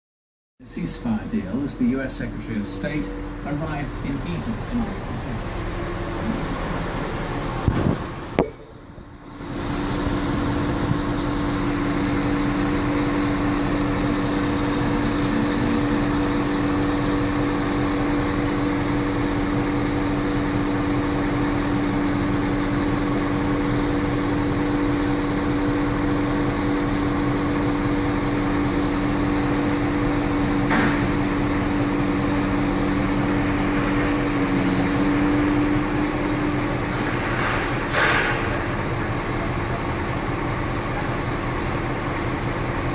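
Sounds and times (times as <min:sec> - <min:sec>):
construction machinery drone: 0:00.6 - 0:42.9.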